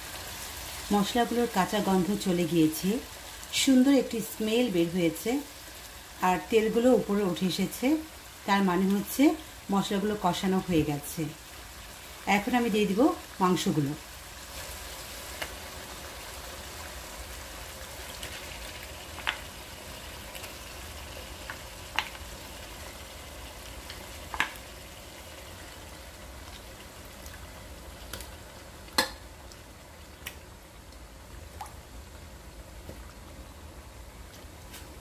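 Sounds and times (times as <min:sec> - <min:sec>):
meat frying in oil: 0:00.0 - 0:35.0.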